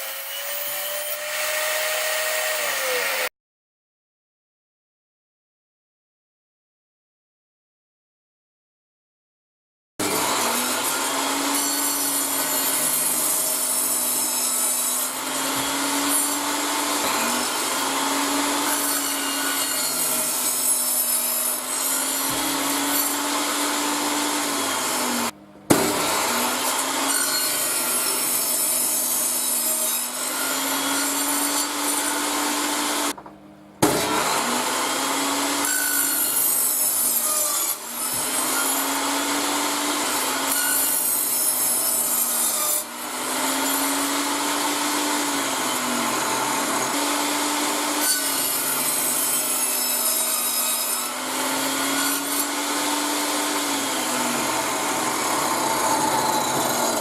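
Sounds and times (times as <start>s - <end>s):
power saw cutting wood: 0.0s - 3.3s, 10.0s - 33.2s, 33.8s - 57.0s.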